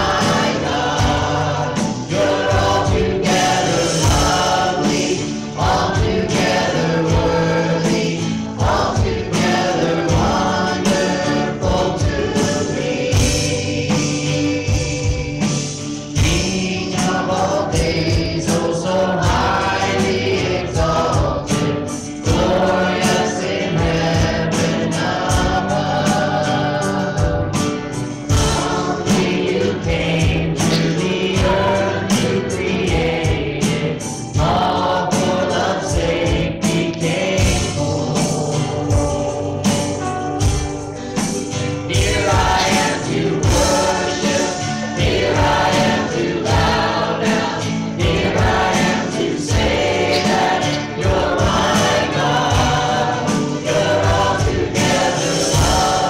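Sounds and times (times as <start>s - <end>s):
steady drum beat: 0.0s - 56.0s
voices singing over a band: 0.0s - 56.0s.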